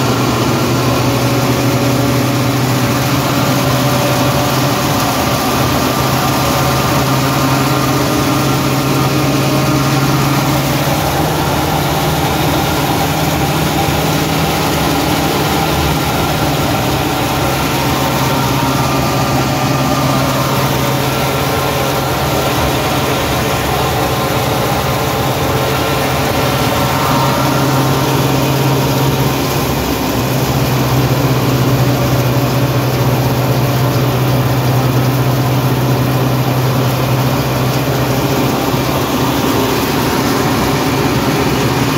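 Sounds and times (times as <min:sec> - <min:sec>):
threshing machine droning: 0:00.0 - 0:41.9.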